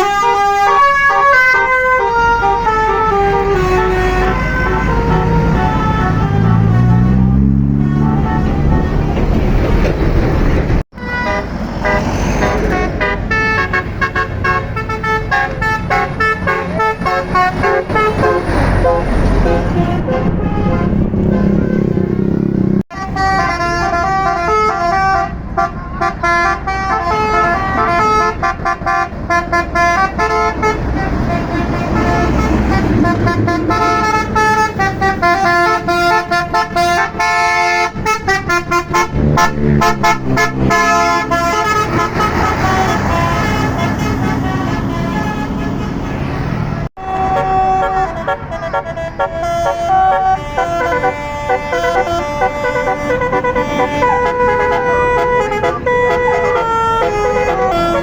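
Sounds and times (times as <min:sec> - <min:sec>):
multi-note bus air horn tune: 0:00.0 - 0:09.2, 0:11.0 - 0:22.2, 0:22.9 - 0:58.0
bus engine running: 0:00.0 - 0:58.0.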